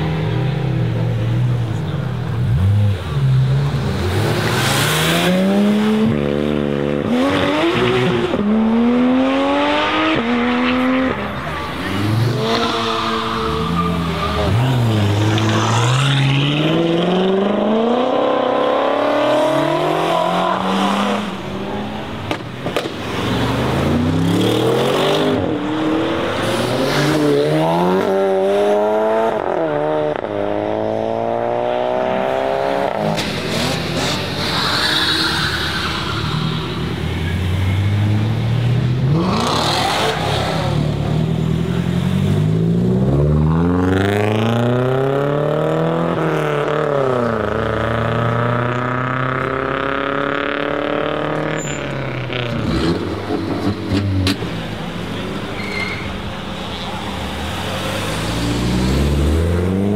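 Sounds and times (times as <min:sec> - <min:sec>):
cars accelerating hard: 0:00.0 - 0:59.9.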